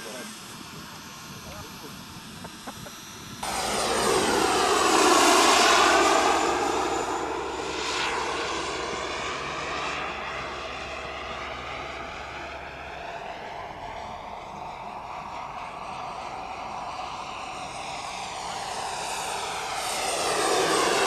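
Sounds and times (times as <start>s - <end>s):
model jet turbine flying past: 0.0s - 21.0s.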